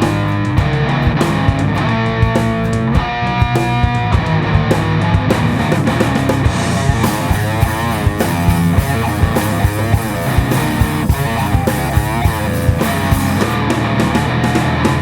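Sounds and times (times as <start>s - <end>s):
bass guitar: 0.0s - 15.0s
electric guitar lead lines: 0.0s - 15.0s
steady drum beat: 0.0s - 15.0s.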